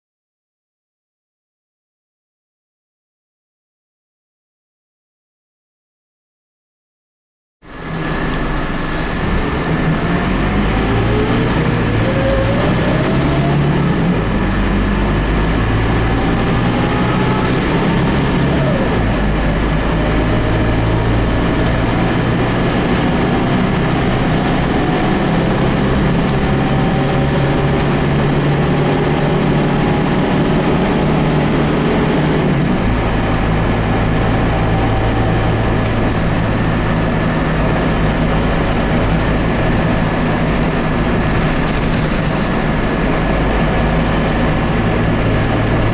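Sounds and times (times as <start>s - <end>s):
diesel bus engine running: 7.6s - 45.9s
gear whine: 7.7s - 45.9s.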